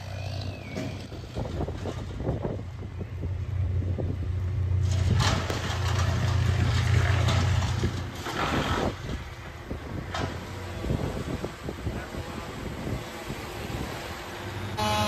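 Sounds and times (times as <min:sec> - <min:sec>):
wind buffeting microphone: 0:01.0 - 0:06.8, 0:07.6 - 0:14.4.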